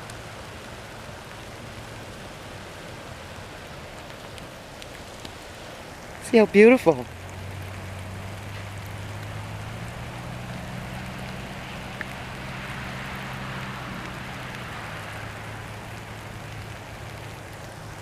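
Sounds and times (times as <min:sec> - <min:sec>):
heavy rain in woods: 0:00.0 - 0:18.0.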